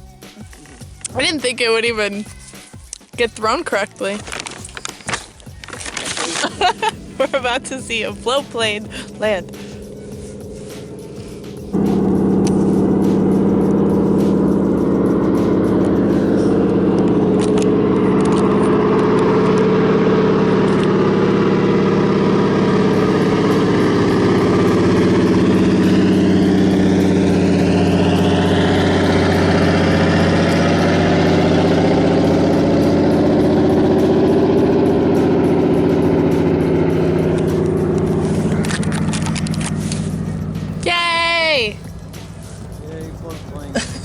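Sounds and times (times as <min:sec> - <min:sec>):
propeller plane engine: 0:04.0 - 0:44.0.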